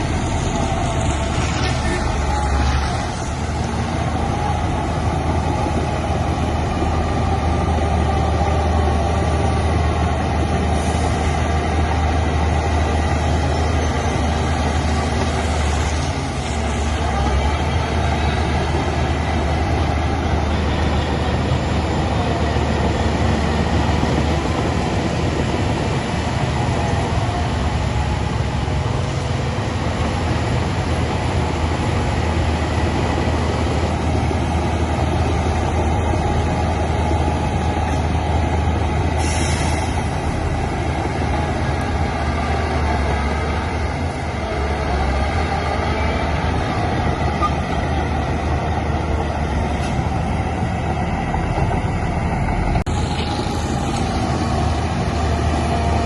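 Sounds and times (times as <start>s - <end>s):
heavy diesel machinery droning: 0.0s - 56.0s.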